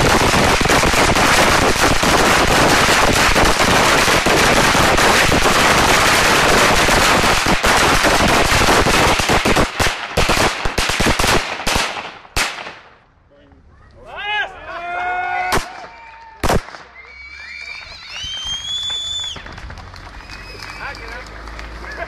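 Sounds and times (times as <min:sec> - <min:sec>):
firecrackers crackling and banging: 0:00.0 - 0:13.1, 0:15.5 - 0:22.0.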